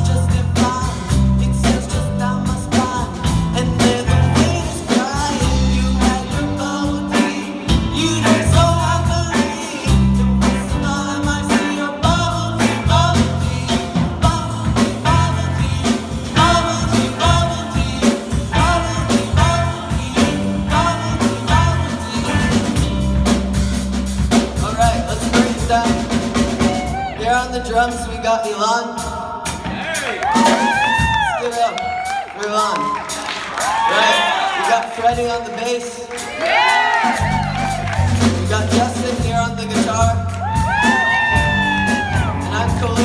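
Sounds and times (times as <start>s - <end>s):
rock band playing live: 0.0s - 33.9s, 34.6s - 43.0s.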